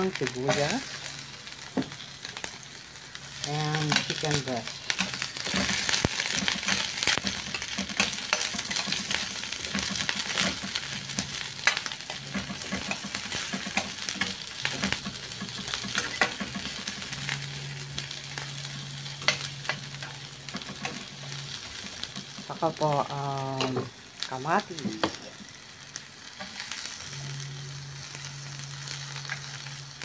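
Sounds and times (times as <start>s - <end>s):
garlic and onion sizzling in oil: 0.0s - 30.0s.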